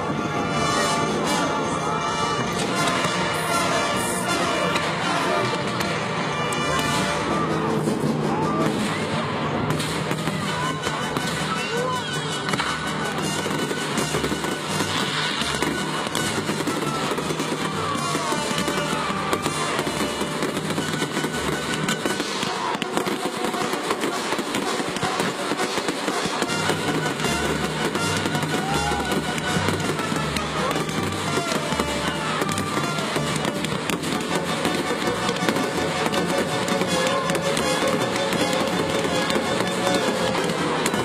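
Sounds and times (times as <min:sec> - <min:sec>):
fireworks crackling and popping: 0:00.0 - 0:41.0.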